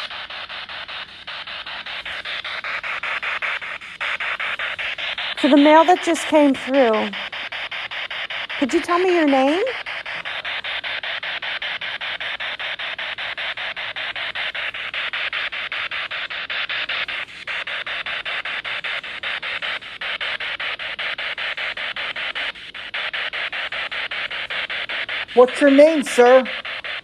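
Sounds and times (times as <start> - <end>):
radio static pulsing: 0.0 - 27.0.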